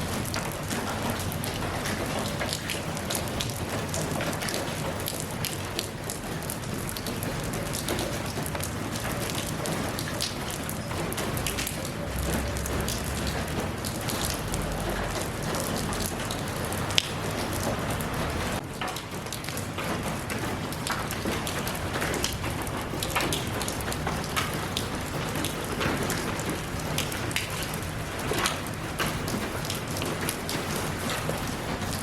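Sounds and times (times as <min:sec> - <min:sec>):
rain falling: 0:00.0 - 0:32.0
raindrops striking a surface: 0:00.0 - 0:32.0.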